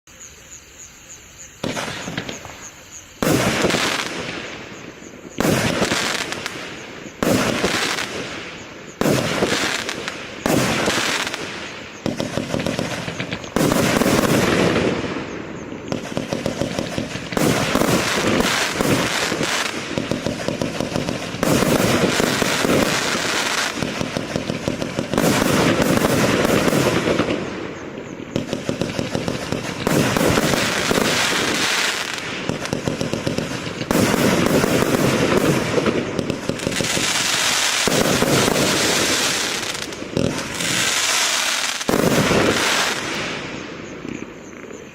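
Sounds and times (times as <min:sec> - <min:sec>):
fireworks bangs: 0:01.6 - 0:44.9.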